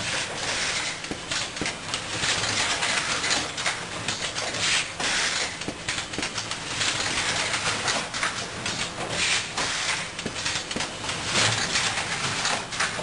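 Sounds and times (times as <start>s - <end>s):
machine clattering and clicking: 0.0s - 13.0s.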